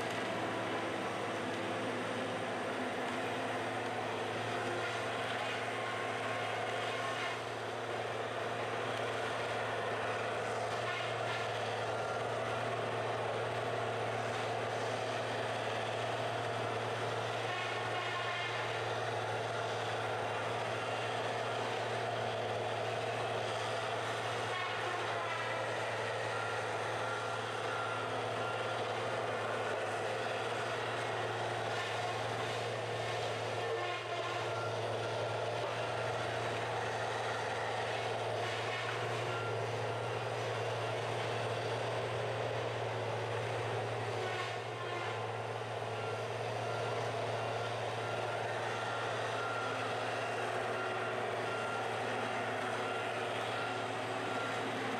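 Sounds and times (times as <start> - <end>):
diesel engine and hydraulics droning: 0.0 - 54.9.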